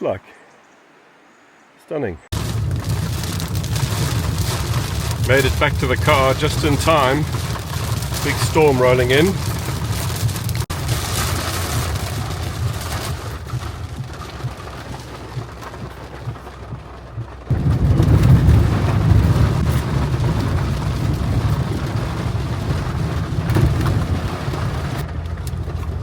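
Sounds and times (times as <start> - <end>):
wind: 0.0 - 26.0
rain: 0.5 - 26.0
deep rumble: 2.3 - 26.0.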